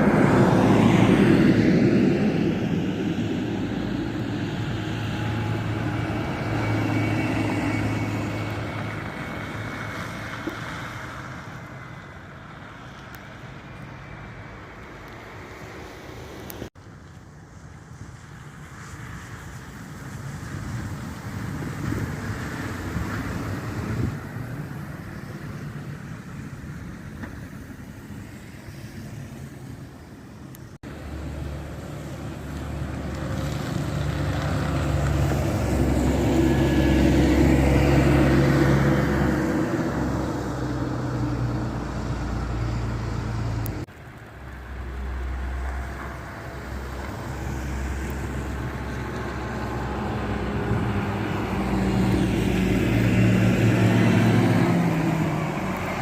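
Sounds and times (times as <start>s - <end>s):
bus engine noise: 0.0s - 56.0s
tyres on the road: 0.0s - 56.0s.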